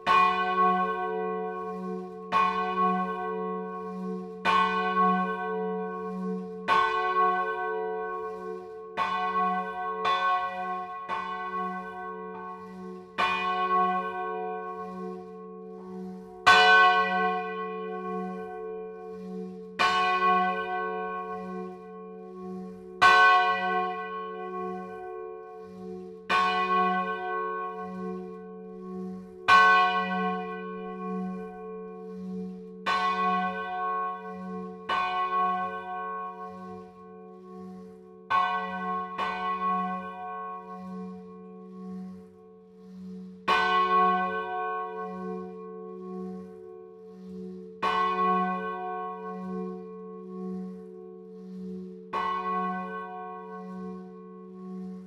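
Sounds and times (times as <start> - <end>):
church bell ringing: 0.0 - 55.0.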